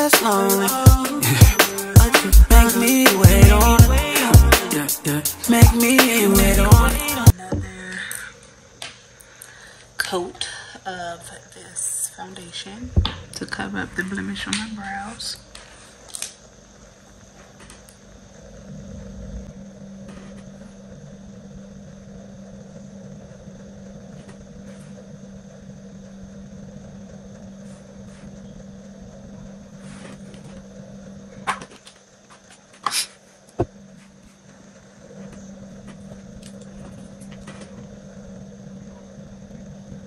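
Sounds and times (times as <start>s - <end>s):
low room hum: 0.0s - 40.0s.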